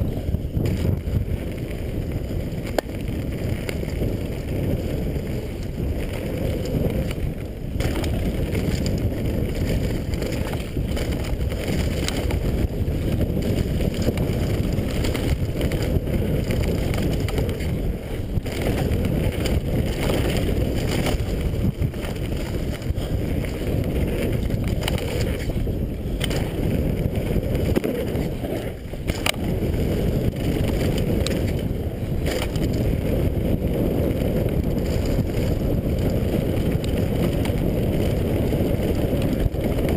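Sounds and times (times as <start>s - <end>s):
bike rattling clicks and knocks: 0.0s - 39.9s
bike tyres rolling on gravel: 0.0s - 39.9s
wind on microphone: 0.0s - 39.9s.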